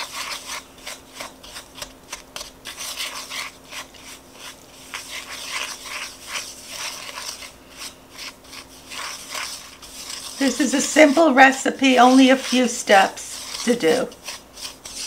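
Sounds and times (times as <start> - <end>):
wooden spoon scraping ceramic bowl: 0.0 - 15.0.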